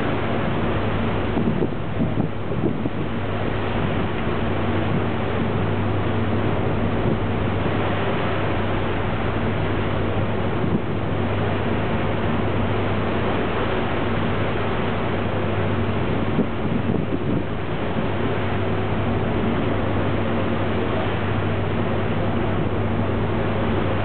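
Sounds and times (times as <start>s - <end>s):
ferry engines humming: 0.0s - 24.0s
wind and water rushing: 0.0s - 24.0s.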